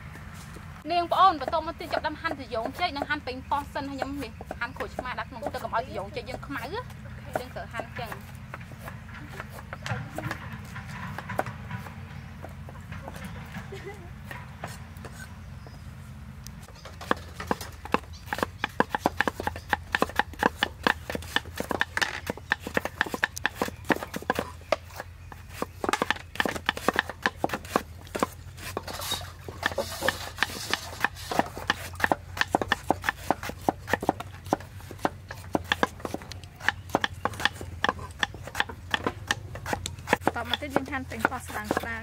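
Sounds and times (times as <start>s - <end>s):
knife chopping on wooden board: 1.4s - 12.5s, 16.7s - 42.0s.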